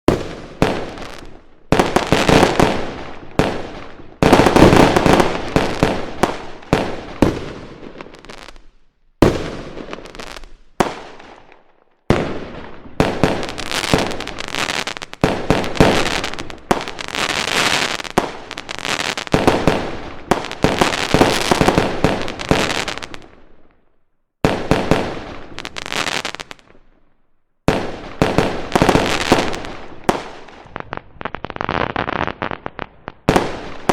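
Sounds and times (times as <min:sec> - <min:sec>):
fireworks bangs with crackle: 0:00.1 - 0:23.6, 0:24.4 - 0:26.8, 0:27.7 - 0:33.9.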